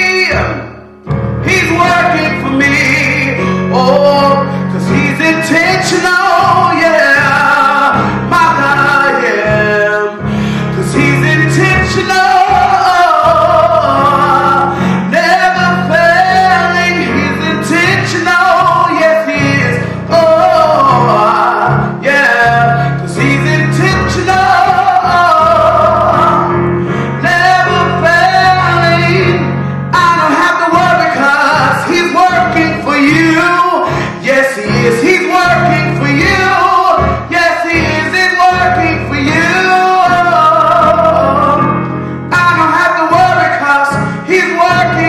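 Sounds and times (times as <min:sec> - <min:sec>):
electronic keyboard chords: 0:00.0 - 0:45.0.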